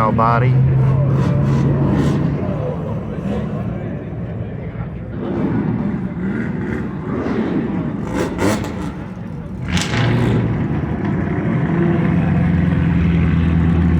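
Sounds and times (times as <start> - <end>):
car engine running: 0.0 - 13.9
outdoor background noise: 0.0 - 13.9.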